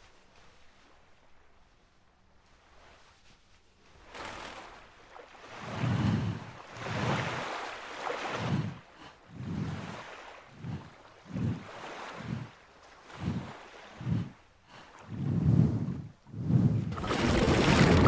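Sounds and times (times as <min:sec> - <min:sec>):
surf and wind surges: 0:00.0 - 0:18.0.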